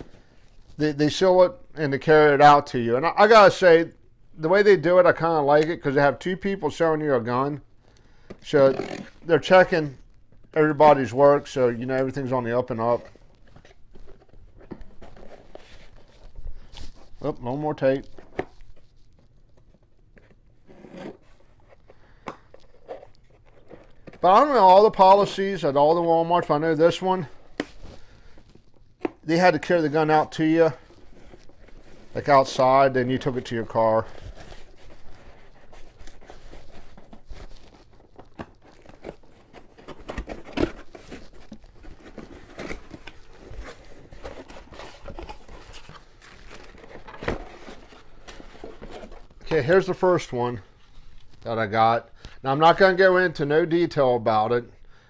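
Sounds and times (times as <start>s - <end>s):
crinkling: 7.8s - 52.8s.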